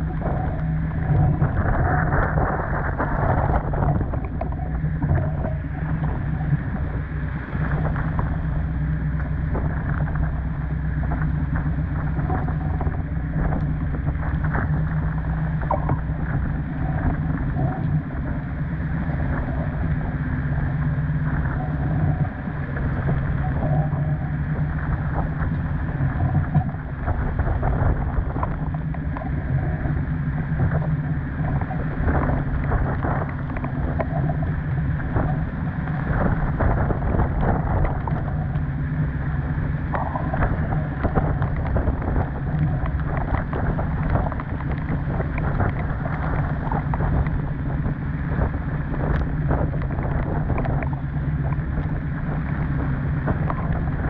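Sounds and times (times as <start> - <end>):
water rushing along hull: 0.0 - 54.0
wind buffeting microphone: 0.0 - 54.0.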